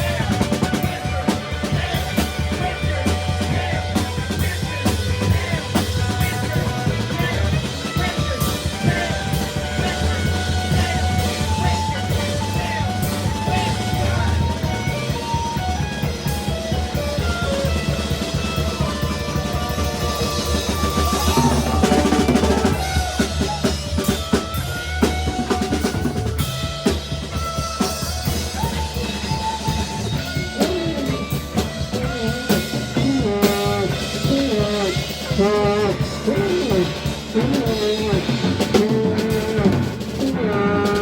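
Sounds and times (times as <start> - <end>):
bass drum: 0.0 - 41.0
live band playing: 0.0 - 41.0.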